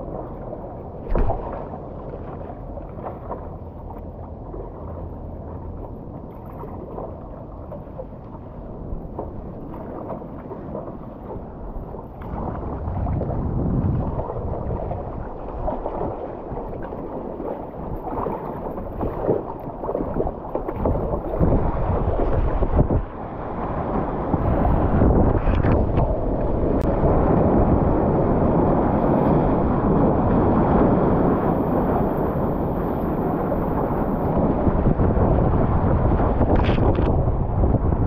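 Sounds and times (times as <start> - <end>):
wind on microphone: 0.0 - 5.0, 5.7 - 38.0
water rushing and splashing: 0.0 - 38.0.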